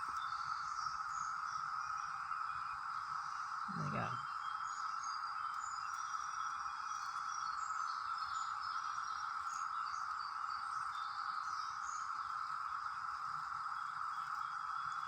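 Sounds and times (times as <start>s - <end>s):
cicadas droning chorus: 0.0s - 15.0s.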